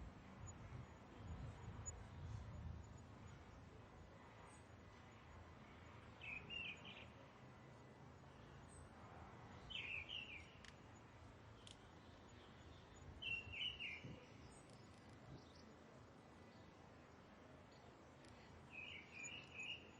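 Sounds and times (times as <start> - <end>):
faint steady hiss: 0.0 - 19.9.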